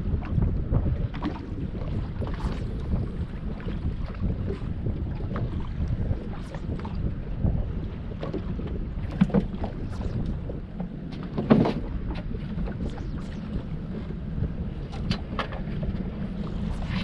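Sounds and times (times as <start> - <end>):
water noise: 0.0 - 17.0
wind buffeting microphone: 0.0 - 17.0.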